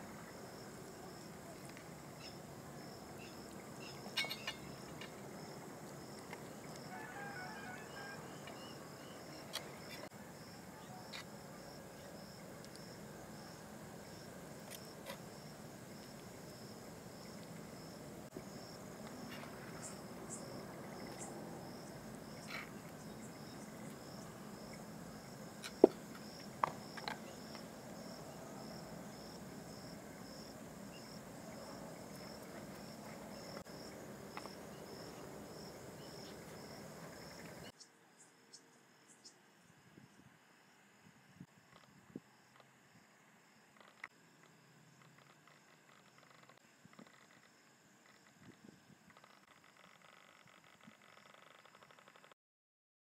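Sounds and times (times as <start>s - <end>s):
insects chirping: 0.0s - 52.4s.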